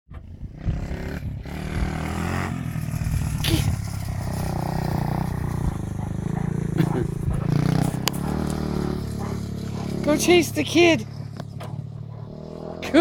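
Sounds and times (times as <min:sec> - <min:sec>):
small engine running: 0:00.2 - 0:13.0.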